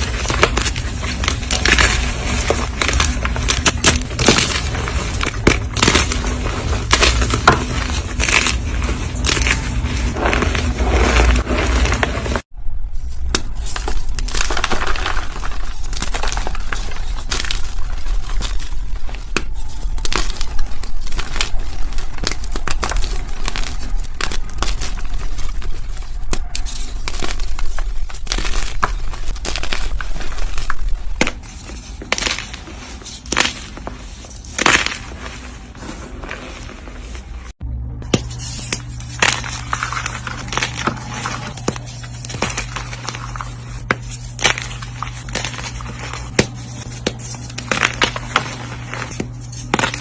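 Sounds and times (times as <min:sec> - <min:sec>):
chalk blocks crunching: 0:00.0 - 0:50.0.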